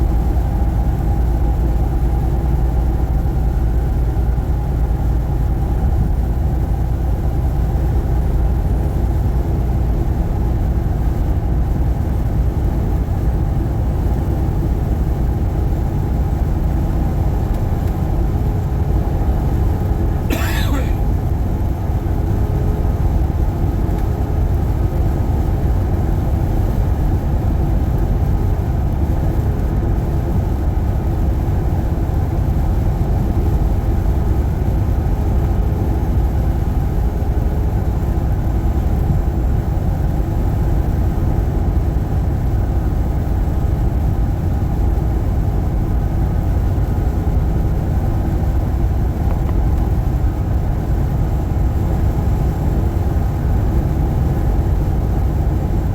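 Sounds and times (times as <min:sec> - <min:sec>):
truck engine and road drone: 0:00.0 - 0:55.9.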